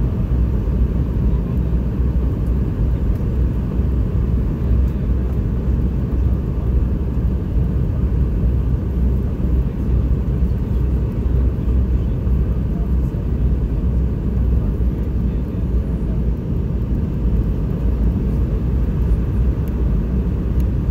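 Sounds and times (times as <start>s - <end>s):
airliner cabin rumble: 0.0s - 20.9s.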